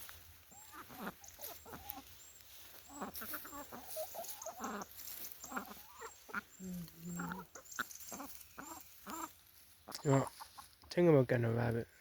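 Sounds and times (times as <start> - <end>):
chickens clucking: 0.0 - 11.1.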